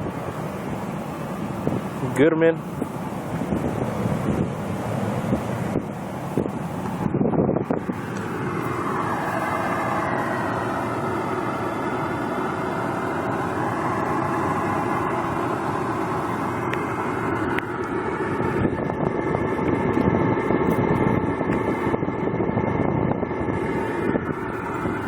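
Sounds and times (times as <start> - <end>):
outdoor air conditioner hum: 0.0 - 25.0.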